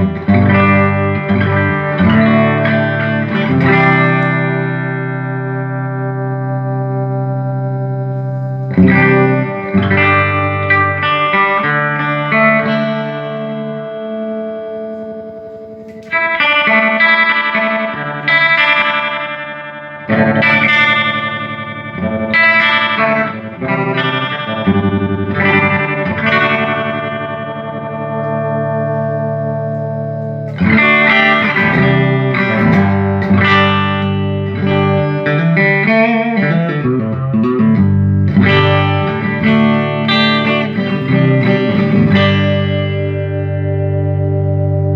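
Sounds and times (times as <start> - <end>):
electric guitar chords ringing: 0.0 - 44.9
electric guitar note runs with bends: 0.0 - 44.9.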